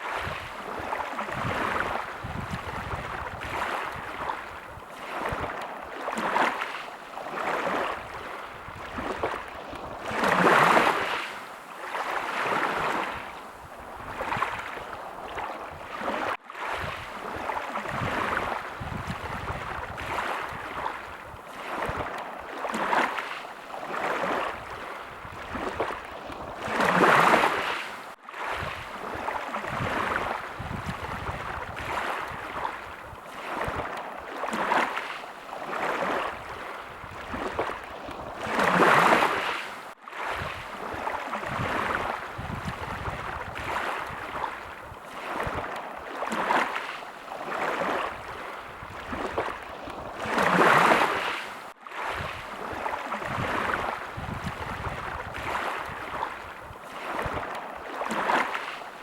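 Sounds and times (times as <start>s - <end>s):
small sea waves washing in: 0.0s - 59.0s.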